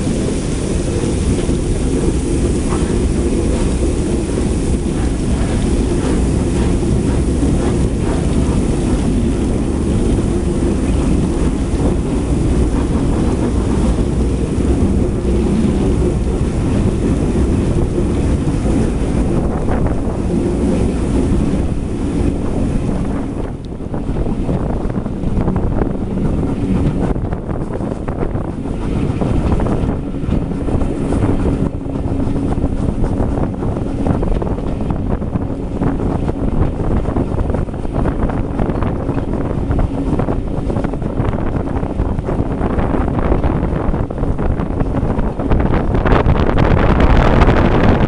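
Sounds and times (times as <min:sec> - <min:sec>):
train coaches rumbling on track: 0:00.0 - 0:48.0
wind buffeting microphone: 0:00.0 - 0:48.0.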